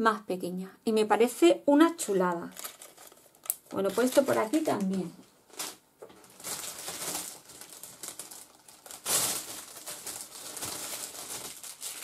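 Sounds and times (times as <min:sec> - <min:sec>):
plastic packets crinkling: 0:02.2 - 0:12.0.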